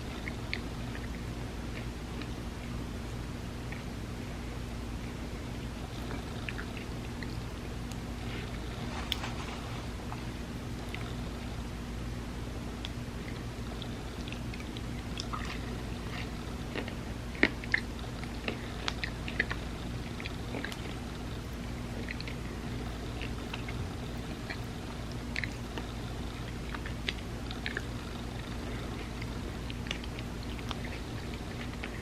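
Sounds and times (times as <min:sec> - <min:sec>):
chewing and biting ice cream: 0:00.0 - 0:11.7, 0:12.6 - 0:32.0
steady low hum: 0:00.0 - 0:32.0.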